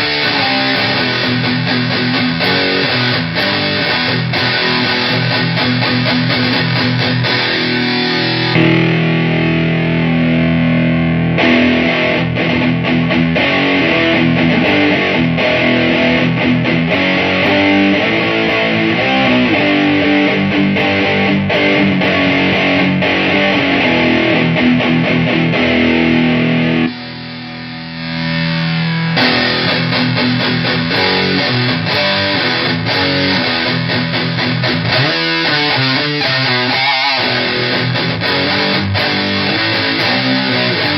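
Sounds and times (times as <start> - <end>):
distorted electric guitar riffing: 0.0 - 40.9.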